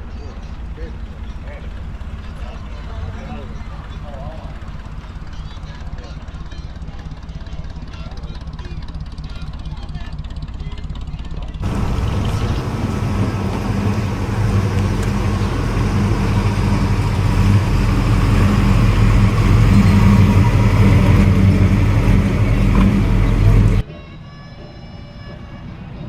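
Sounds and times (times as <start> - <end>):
car engine rumbling: 0.0 - 23.8.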